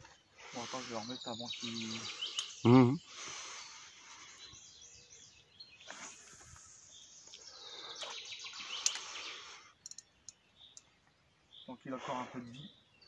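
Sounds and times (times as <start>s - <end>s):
birds chirping: 0.0s - 13.0s
soft outdoor hiss: 0.0s - 13.0s.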